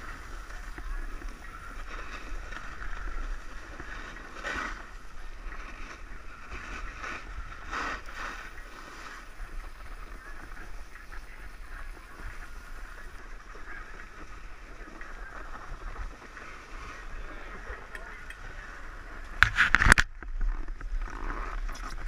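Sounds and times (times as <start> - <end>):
skis scraping on snow: 0.0 - 19.8.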